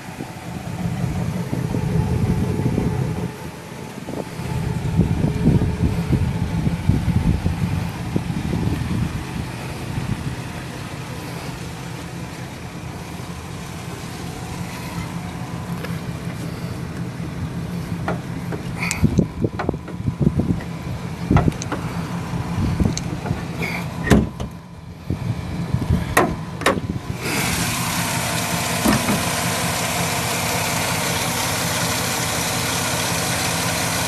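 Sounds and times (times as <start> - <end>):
engine running low drone: 0.0 - 34.0.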